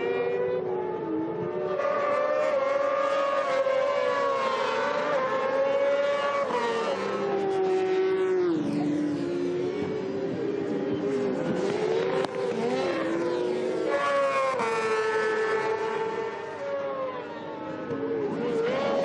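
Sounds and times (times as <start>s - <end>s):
motorcycle engines at high revs: 0.0s - 19.0s.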